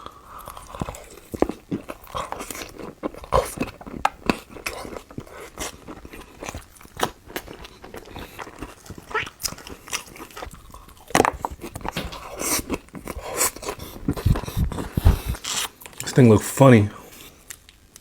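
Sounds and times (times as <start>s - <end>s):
person chewing food: 0.0s - 16.1s.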